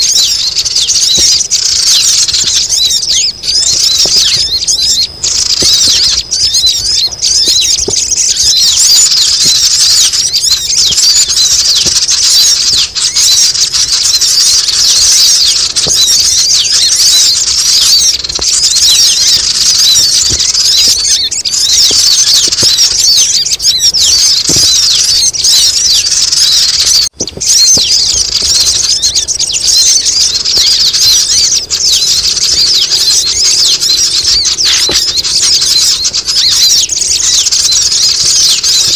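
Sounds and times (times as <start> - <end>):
birds twittering chorus: 0.0 - 38.9.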